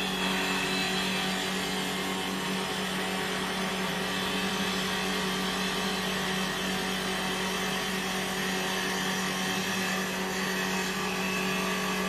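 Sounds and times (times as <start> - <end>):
cutters shaving wood: 0.0 - 12.0
lathe spindle motor humming: 0.0 - 12.0.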